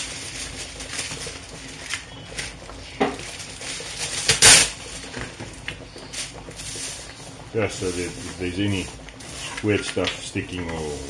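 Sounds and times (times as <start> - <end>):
wax paper rustling: 0.0 - 11.0.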